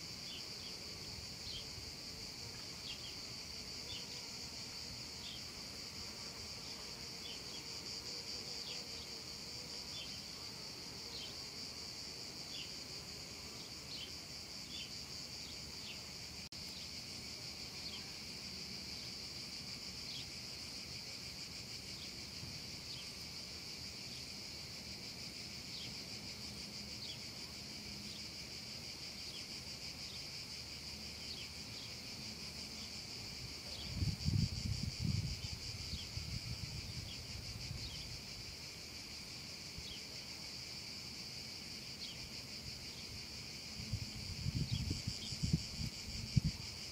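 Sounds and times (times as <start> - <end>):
cicadas buzzing: 0.0 - 46.9.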